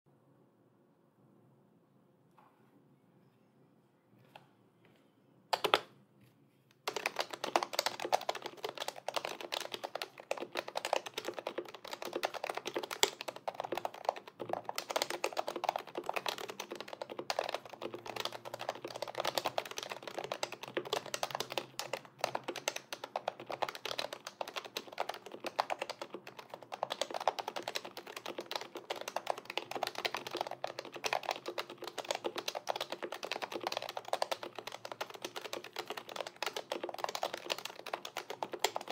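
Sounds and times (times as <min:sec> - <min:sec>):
fast typing on keyboard: 0:05.6 - 0:05.8, 0:06.8 - 0:38.9.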